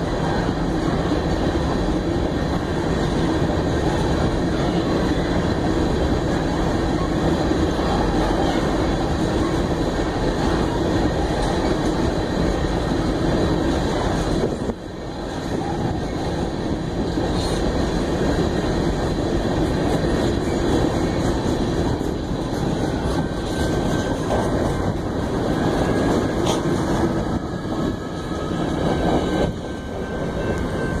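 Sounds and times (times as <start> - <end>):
freight train rumbling past: 0.0 - 31.0
wheels clattering on rails: 0.0 - 31.0.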